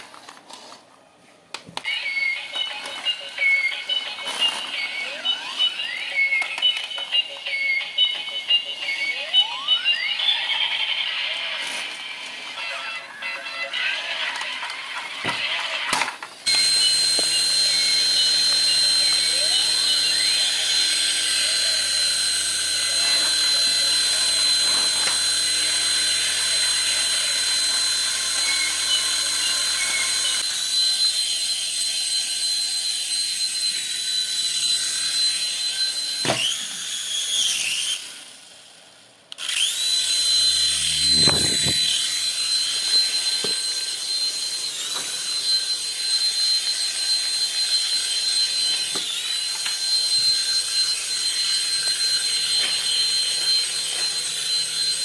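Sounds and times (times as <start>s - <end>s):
toy helicopter rotor whine: 1.8s - 55.0s.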